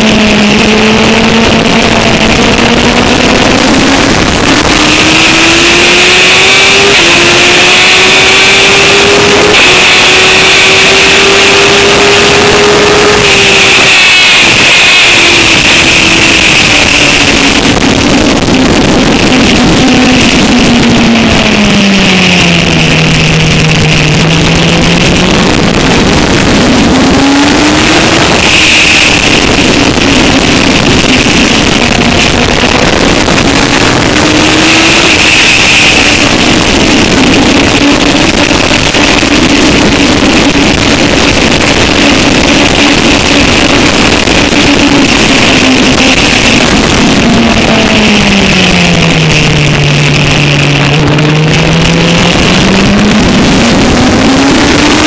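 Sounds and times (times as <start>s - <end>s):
motorcycle engine at speed: 0.0s - 55.0s
wind rush: 0.0s - 55.0s.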